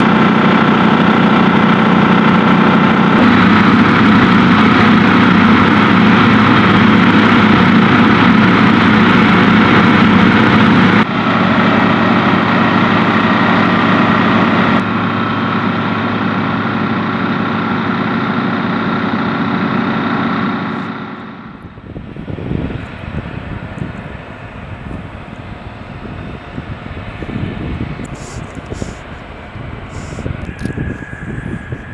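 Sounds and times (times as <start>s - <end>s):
aircraft engine noise: 0.0s - 31.9s.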